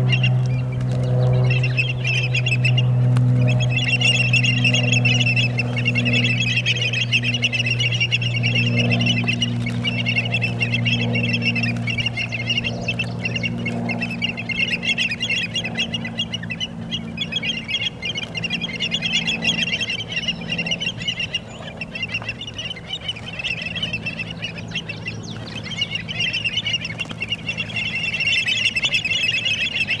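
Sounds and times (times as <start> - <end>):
flock of birds chattering: 0.0 - 30.0
steady low hum: 0.0 - 30.0.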